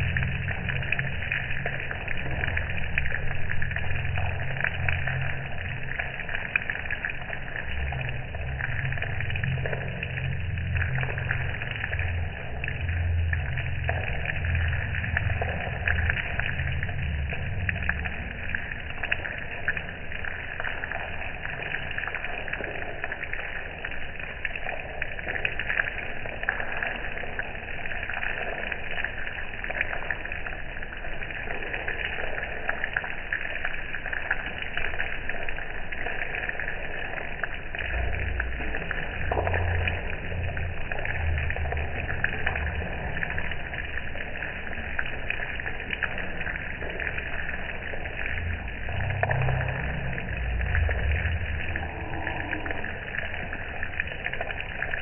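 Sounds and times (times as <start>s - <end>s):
low rumbles: 0.0s - 24.0s, 24.6s - 55.0s
rain pattering: 0.0s - 55.0s.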